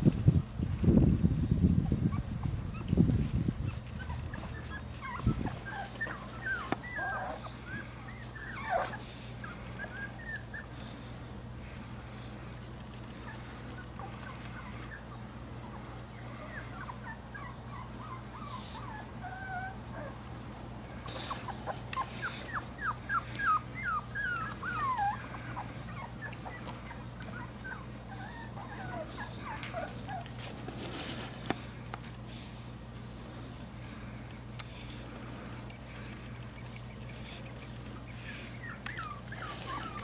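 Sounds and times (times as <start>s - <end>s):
puppies whimpering and yipping: 1.8s - 40.0s.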